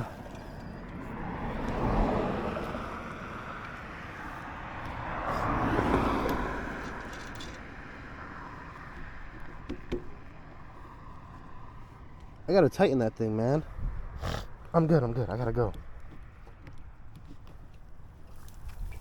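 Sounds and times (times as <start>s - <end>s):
traffic passing: 0.0s - 19.0s.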